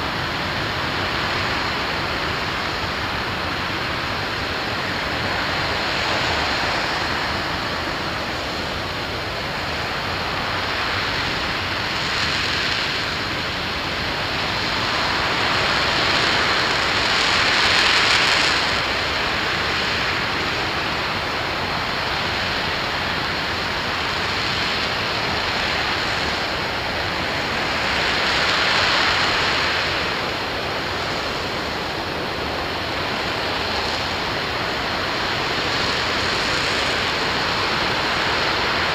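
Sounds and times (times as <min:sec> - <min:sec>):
rocket engine roaring: 0:00.0 - 0:38.9.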